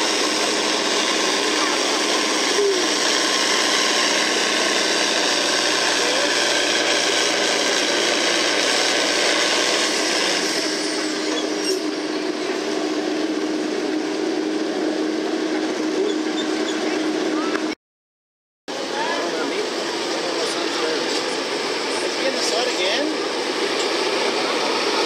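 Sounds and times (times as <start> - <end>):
tractor engine running under load: 0.0 - 17.8, 18.7 - 25.0.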